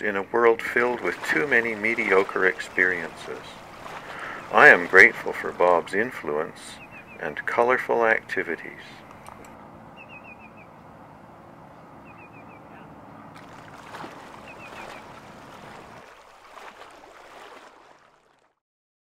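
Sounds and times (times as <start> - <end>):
harbour water wash: 0.0 - 11.1, 12.0 - 18.6.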